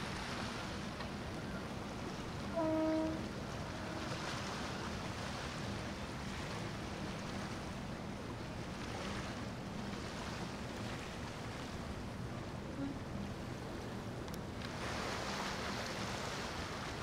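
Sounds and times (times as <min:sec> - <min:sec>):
boat engine hum: 0:00.0 - 0:17.0
bow wave and wake washing: 0:00.0 - 0:17.0.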